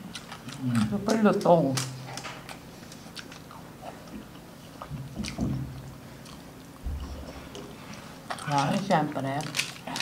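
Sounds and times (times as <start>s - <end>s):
chewing and crunching: 0.0s - 10.0s.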